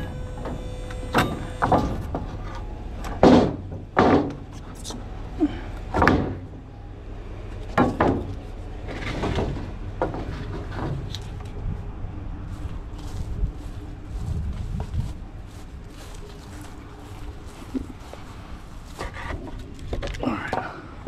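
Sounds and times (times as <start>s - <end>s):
low rumble: 0.0s - 18.9s.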